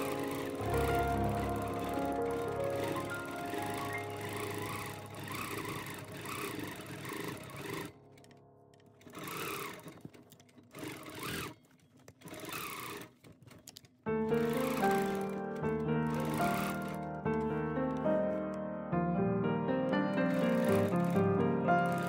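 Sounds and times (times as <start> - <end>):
quilting machine stitching: 0.0 - 18.4, 19.9 - 22.0.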